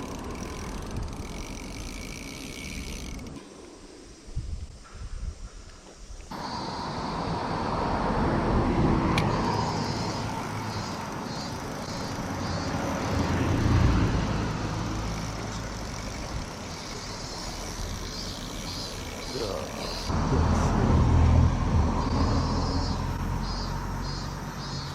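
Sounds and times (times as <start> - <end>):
road traffic passing: 0.0 - 3.8, 6.3 - 24.9.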